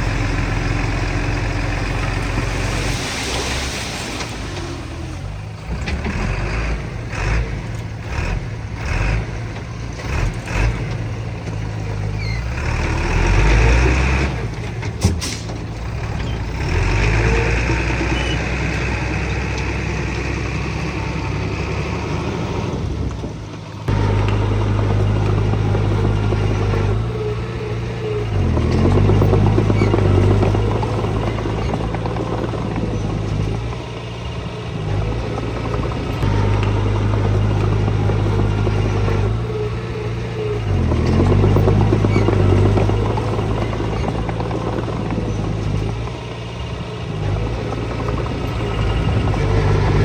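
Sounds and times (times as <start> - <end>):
heavy diesel machinery engines: 0.0 - 50.0.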